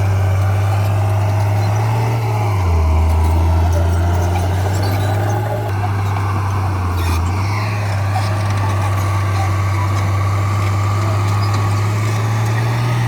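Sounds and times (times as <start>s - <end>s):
diesel engine droning under load: 0.0s - 13.0s.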